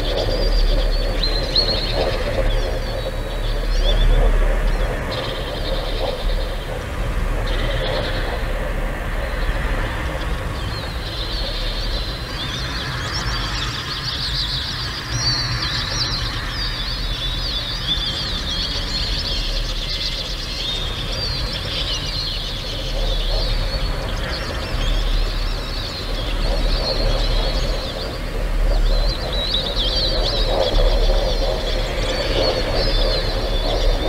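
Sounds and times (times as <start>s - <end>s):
small birds chirping: 0.0s - 34.0s
steady low rumble: 0.0s - 34.0s.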